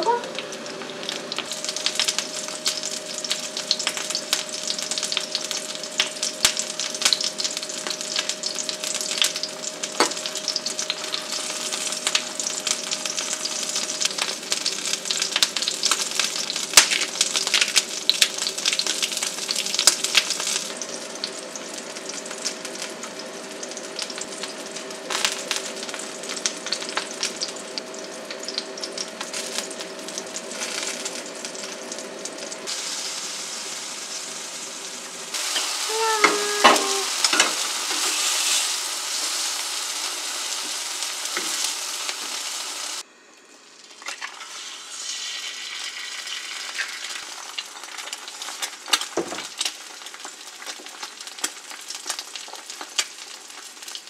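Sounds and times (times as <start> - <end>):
tomato slices sizzling in oil: 0.0 - 54.0.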